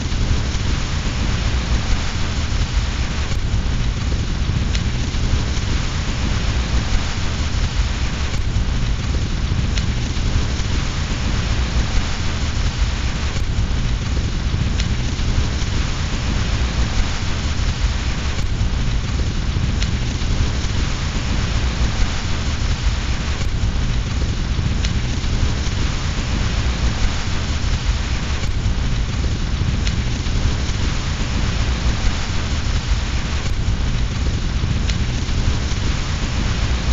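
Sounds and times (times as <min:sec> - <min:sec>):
deep low rumble: 0:00.0 - 0:36.9
fireplace fire crackling: 0:00.0 - 0:36.9
steady rain: 0:00.0 - 0:36.9.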